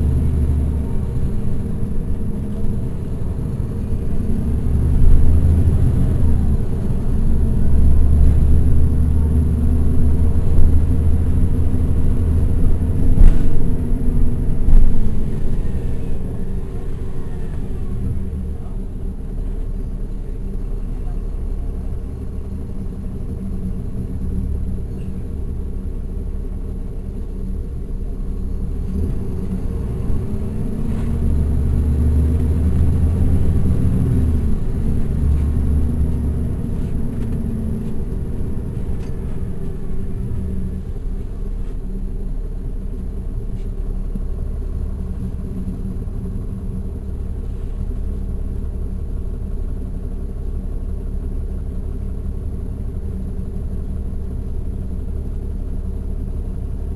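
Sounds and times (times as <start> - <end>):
bus diesel engine drone: 0.0 - 56.9.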